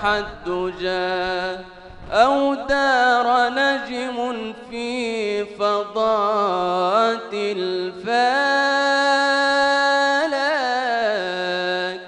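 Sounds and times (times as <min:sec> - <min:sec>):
man singing devotional chant: 0:00.0 - 0:12.0.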